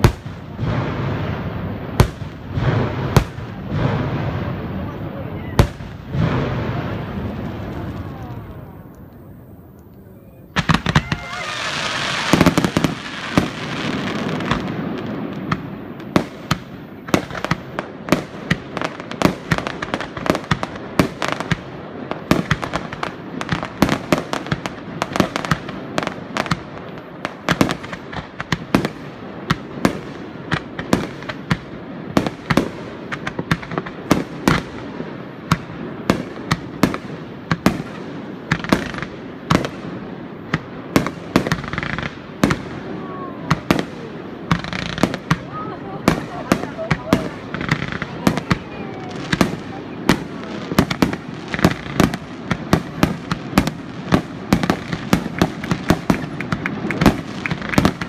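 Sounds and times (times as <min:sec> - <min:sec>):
fireworks bangs and crackling pops: 0:00.0 - 0:58.0.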